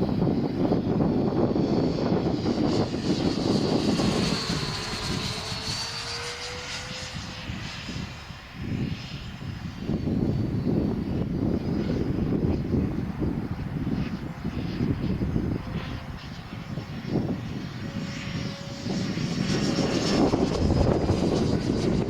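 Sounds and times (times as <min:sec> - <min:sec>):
electric ducted fans whining: 0:00.0 - 0:22.0
wind buffeting microphone: 0:00.0 - 0:22.0.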